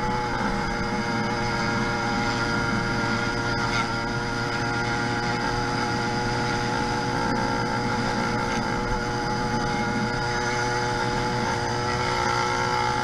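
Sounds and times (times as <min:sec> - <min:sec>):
two-stroke engine running steadily: 0:00.0 - 0:13.0.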